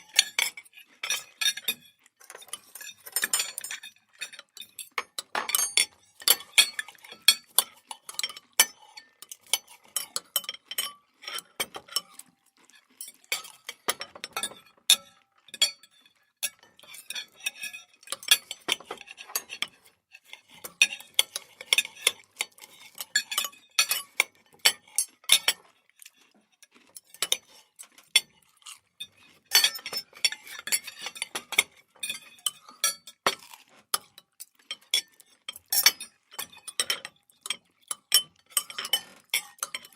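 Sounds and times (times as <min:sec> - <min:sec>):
cutlery clinking and scraping plates: 0:00.0 - 0:26.2, 0:26.8 - 0:39.9.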